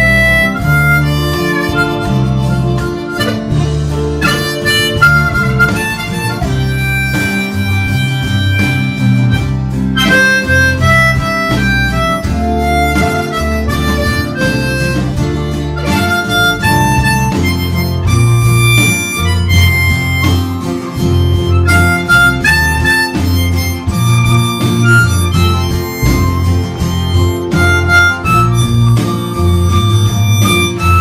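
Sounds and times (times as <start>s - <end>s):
backing track with guitar and bass: 0.0s - 31.0s
harmonica melody: 0.0s - 31.0s.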